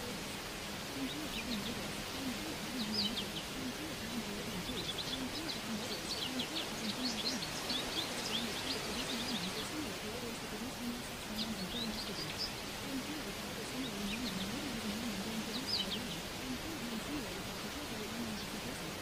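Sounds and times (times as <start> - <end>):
birds chirping: 0.0 - 19.0
low faint voice: 0.0 - 19.0
steady hiss: 0.0 - 19.0.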